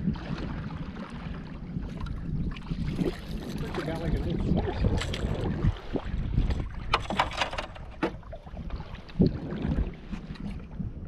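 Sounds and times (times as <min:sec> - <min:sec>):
water lapping against canoe: 0:00.0 - 0:11.0
wind rumbling on microphone: 0:00.0 - 0:11.0.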